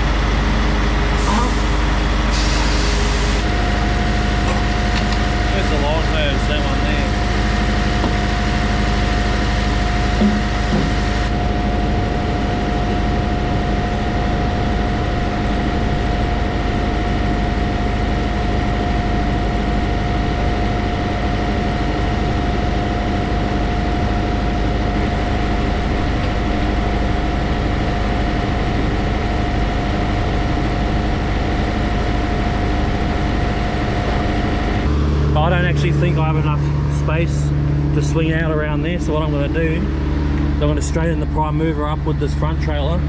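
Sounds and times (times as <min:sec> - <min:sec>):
constant high whine: 0:00.0 - 0:43.0
diesel engine idling: 0:00.0 - 0:43.0.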